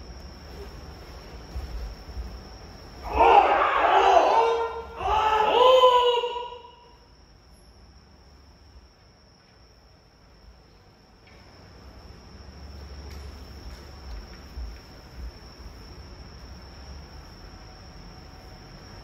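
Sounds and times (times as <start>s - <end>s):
low rumbling room noise: 0.0s - 19.0s.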